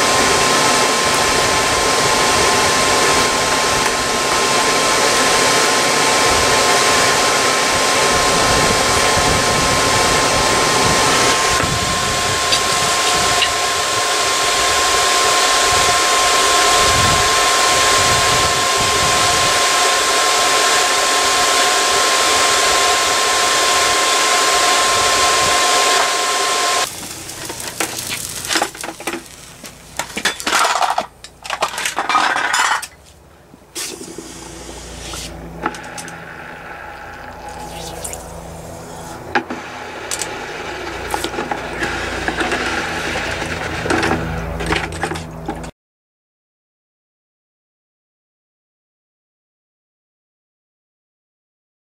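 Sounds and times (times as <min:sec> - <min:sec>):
forge roaring: 0:00.0 - 0:30.1, 0:34.2 - 0:45.7
high whine: 0:00.0 - 0:32.1, 0:32.8 - 0:45.7.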